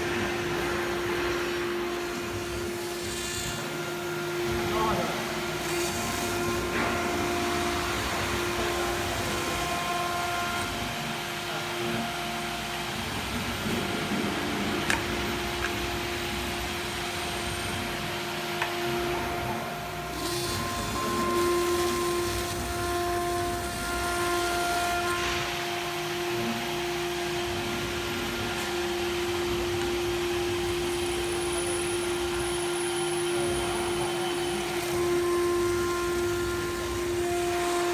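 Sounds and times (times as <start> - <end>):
router spindle whine: 0.0 - 37.9.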